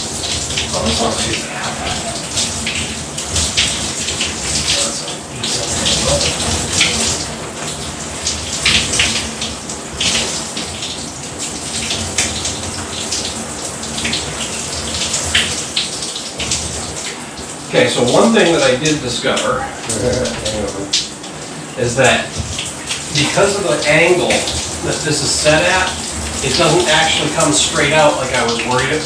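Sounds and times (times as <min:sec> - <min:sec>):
shower water pouring: 0:00.0 - 0:29.0.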